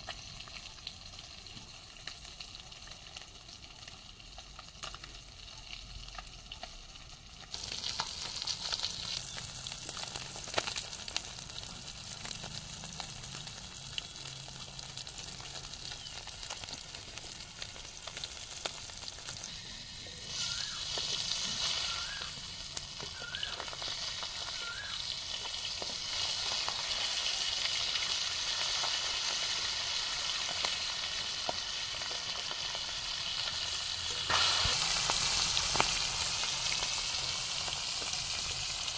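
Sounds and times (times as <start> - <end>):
food sizzling in hot oil: 0.0 - 38.9.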